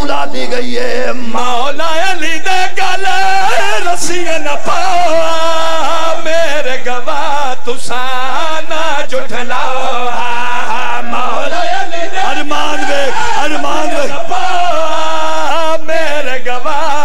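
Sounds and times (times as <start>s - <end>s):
person chanting a lament: 0.0s - 17.0s.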